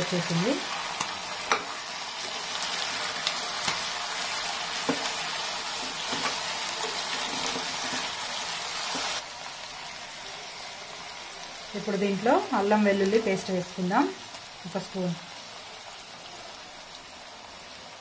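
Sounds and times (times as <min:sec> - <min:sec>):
meat sizzling in oil: 0:00.0 - 0:18.0.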